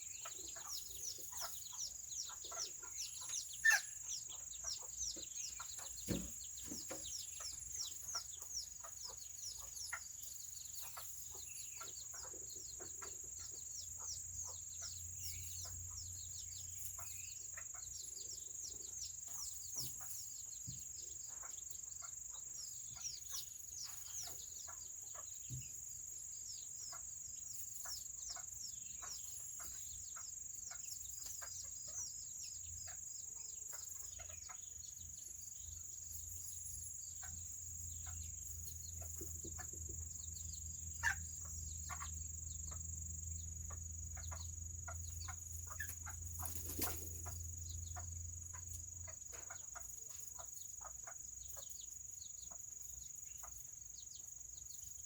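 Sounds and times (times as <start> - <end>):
chickens clucking: 0.0 - 55.0
chicks peeping: 0.0 - 55.0.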